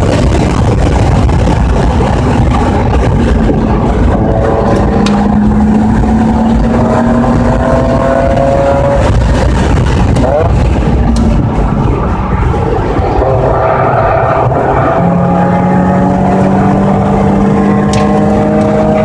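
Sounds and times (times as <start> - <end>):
race car engine under load: 0.0 - 19.0
wind and road noise: 0.0 - 19.0.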